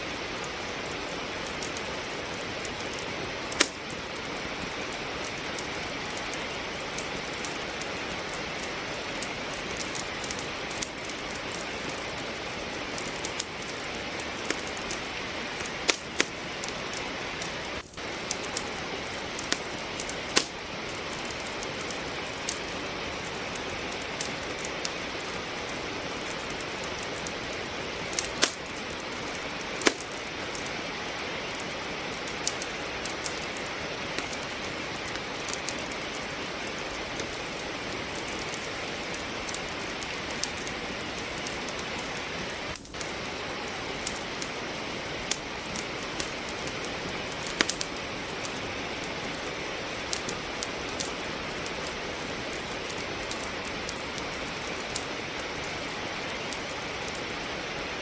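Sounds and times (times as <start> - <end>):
rain hiss: 0.0 - 58.0
wood fire crackling: 0.0 - 58.0.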